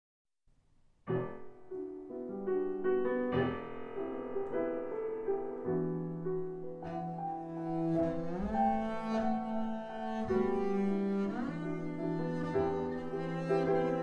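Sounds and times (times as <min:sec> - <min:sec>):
solo piano chords and notes: 0:01.0 - 0:14.0.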